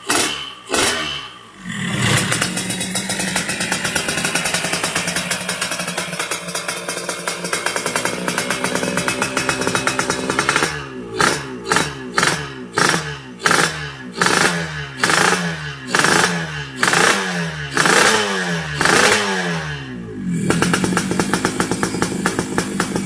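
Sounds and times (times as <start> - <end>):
motorcycle engine revving and idling: 0.0 - 23.0.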